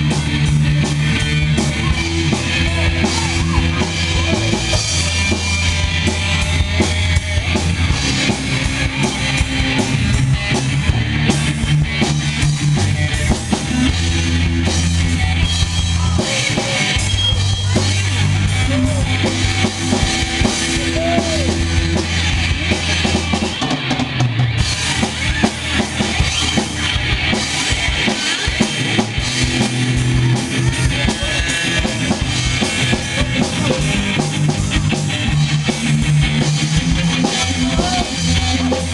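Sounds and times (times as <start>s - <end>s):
bass drum and snare beating: 0.0s - 38.9s
sustained bass guitar notes: 0.0s - 38.9s.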